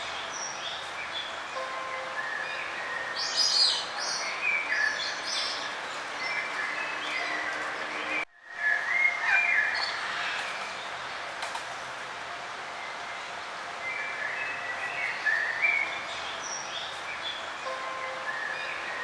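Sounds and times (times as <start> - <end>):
songbirds chirping: 0.0 - 19.0
steady outdoor hiss: 0.0 - 19.0.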